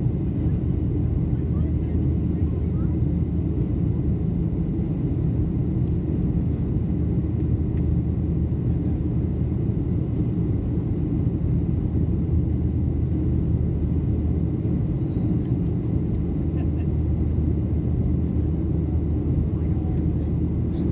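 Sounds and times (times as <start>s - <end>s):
jet engines rumbling in cabin: 0.0s - 20.9s.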